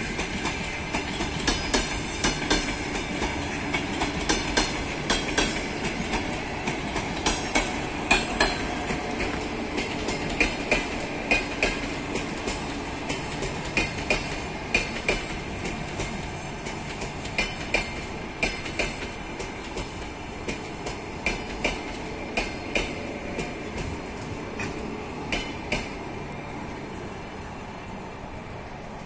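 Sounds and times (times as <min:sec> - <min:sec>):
train wheels clicking over rail joints: 0:00.0 - 0:27.2
train rolling rumble: 0:00.0 - 0:29.0.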